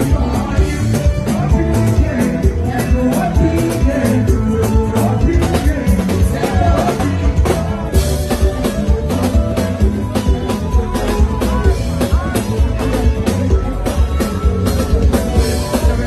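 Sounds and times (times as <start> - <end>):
bass guitar: 0.0 - 16.0
drum kit beat: 0.0 - 16.0
keyboards: 0.0 - 16.0
lead singer: 0.0 - 16.0.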